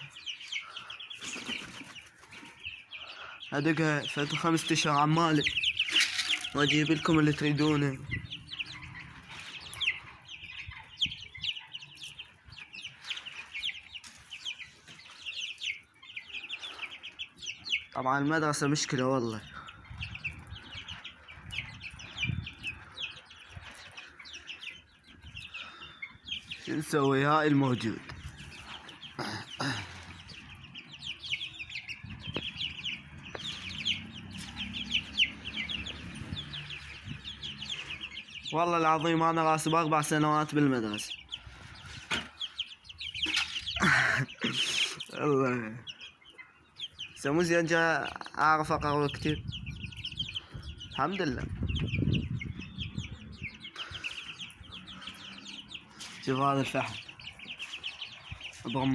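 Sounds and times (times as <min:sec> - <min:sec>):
chicks peeping: 0:00.0 - 0:58.9.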